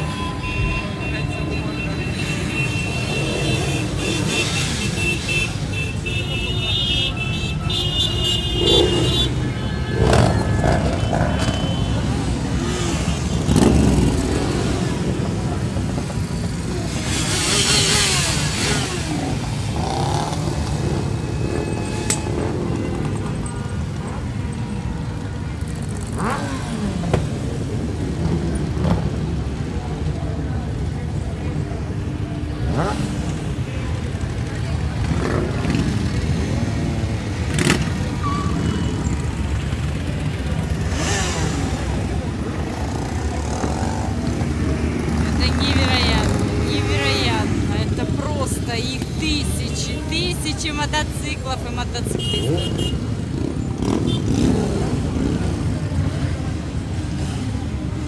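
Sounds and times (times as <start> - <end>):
drone of many motorcycle engines: 0.0 - 58.0
motorcycle revving: 7.2 - 58.0.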